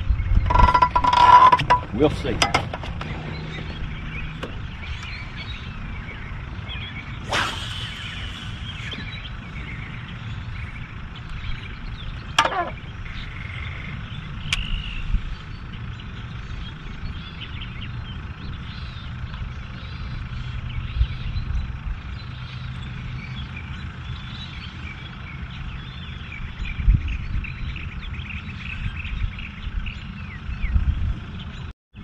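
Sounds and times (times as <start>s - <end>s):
songbirds chirping and twittering: 0.0s - 32.0s
steady low rumble: 0.0s - 32.0s.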